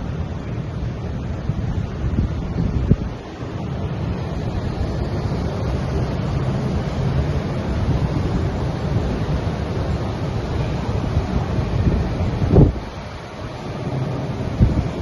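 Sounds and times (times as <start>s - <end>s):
rushing churned water: 0.0s - 15.0s
wind buffeting microphone: 0.0s - 15.0s.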